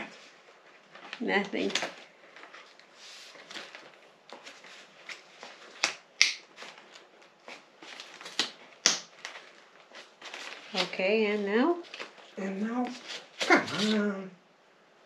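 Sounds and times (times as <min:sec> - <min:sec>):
packaging crinkling and rustling: 0:00.4 - 0:14.1.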